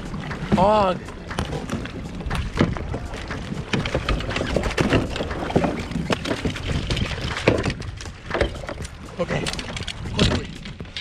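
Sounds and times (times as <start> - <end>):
wind rumbling on microphone: 0.0 - 11.0
fish thudding on plastic kayak: 1.3 - 10.6.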